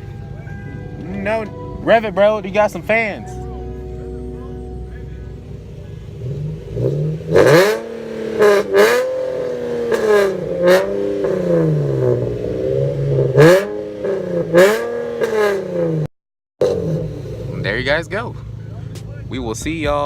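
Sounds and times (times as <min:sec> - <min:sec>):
car engine revving: 0:00.0 - 0:18.8.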